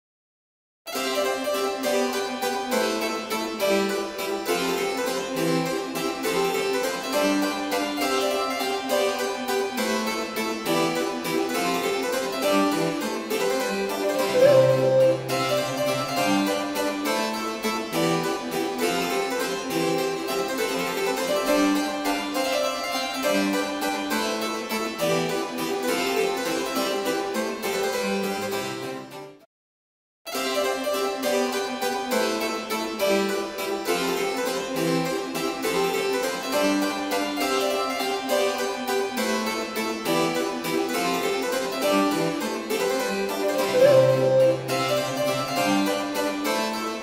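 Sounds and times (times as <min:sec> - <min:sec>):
classical harpsichord-like music: 0:00.9 - 0:29.5, 0:30.3 - 0:47.0.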